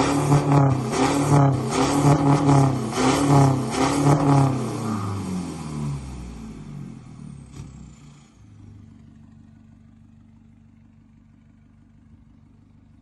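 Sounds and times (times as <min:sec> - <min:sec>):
unmuffled engine revving and idling: 0:00.0 - 0:13.0.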